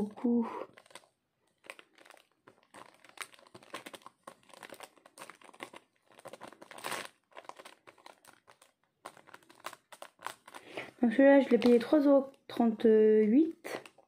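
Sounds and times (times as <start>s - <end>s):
plastic packaging crinkling: 0.3s - 12.8s, 13.4s - 14.0s.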